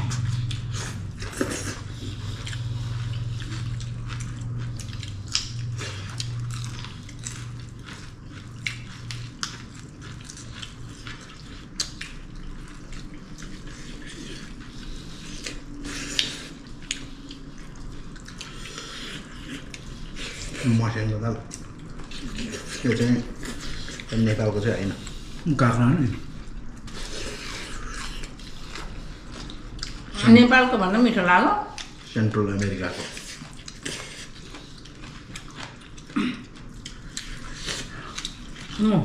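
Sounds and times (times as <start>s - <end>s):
low steady hum: 0.0s - 39.0s
people chewing food: 0.0s - 39.0s.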